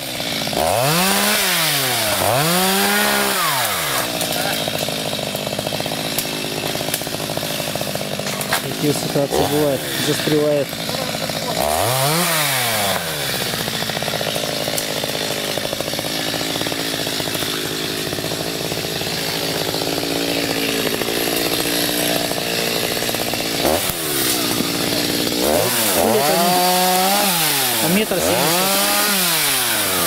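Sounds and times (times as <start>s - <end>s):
chainsaw cutting wood: 0.0s - 30.0s
chainsaw revving: 0.0s - 30.0s.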